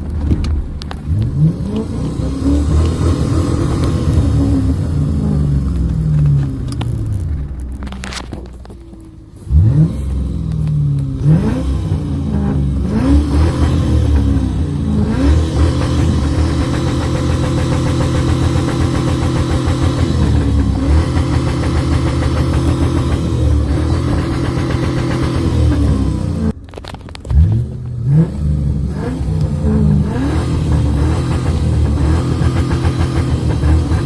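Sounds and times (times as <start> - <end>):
car engine revving and idling: 0.0 - 34.0.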